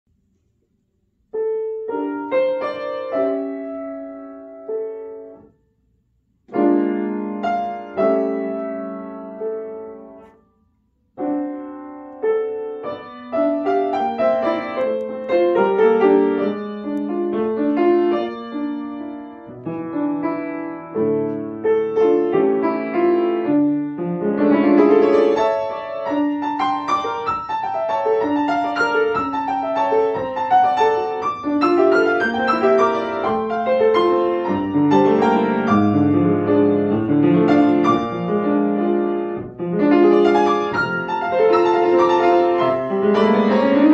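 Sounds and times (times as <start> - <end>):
grand piano playing: 1.4 - 5.5, 6.5 - 10.4, 11.2 - 43.9.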